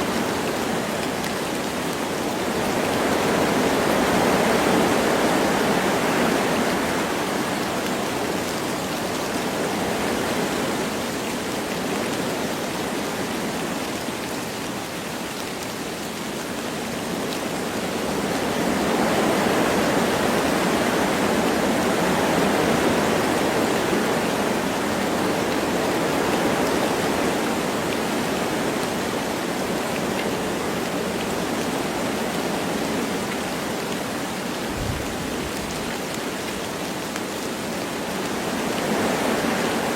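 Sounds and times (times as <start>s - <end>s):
light rain falling: 0.0s - 39.9s
wind through forest trees: 0.0s - 39.9s.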